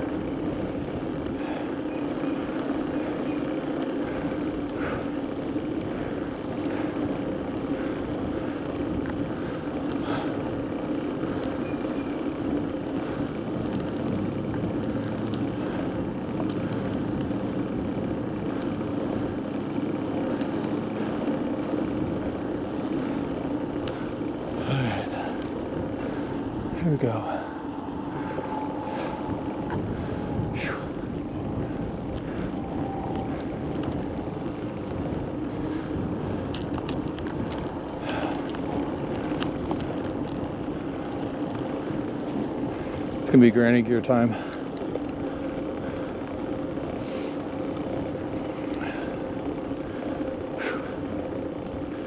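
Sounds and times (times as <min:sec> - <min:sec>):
bicycle tyres humming on road: 0:00.0 - 0:52.0.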